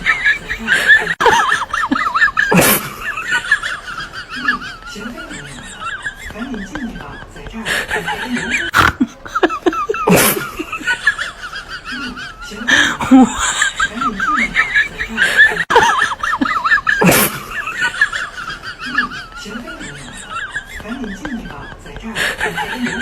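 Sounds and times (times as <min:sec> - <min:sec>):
laughter-like bird calls: 0:00.0 - 0:23.0.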